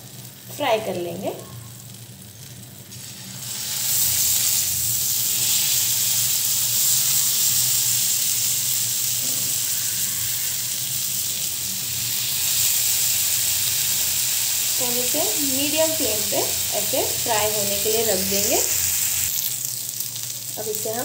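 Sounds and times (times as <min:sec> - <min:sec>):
chicken sizzling in pan: 0:00.0 - 0:21.0.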